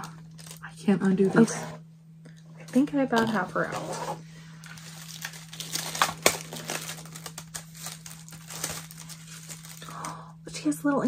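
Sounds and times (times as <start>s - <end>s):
cardboard packaging rustling: 0.0s - 1.8s, 2.8s - 10.3s.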